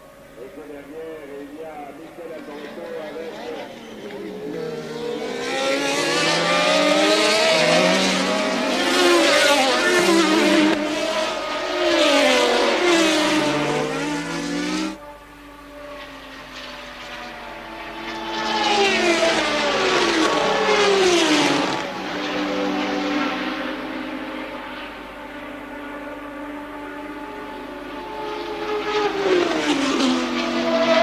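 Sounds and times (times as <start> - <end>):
racing cars passing at speed: 0.4 - 31.0.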